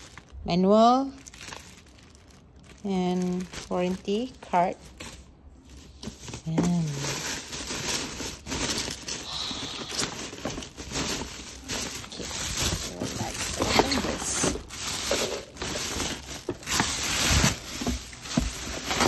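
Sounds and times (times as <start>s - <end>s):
plastic bags rustling and crinkling: 0.0s - 19.0s.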